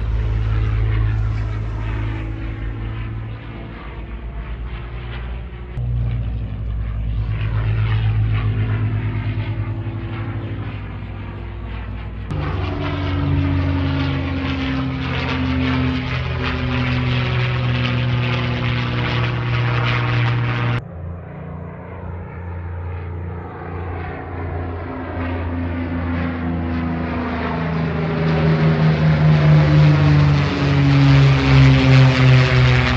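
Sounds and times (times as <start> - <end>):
propeller plane engines droning overhead: 0.0 - 32.9.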